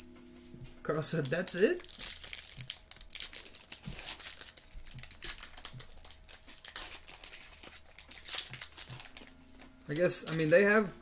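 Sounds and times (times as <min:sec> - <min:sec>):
foil wrapper crinkling and tearing: 0:01.0 - 0:10.9.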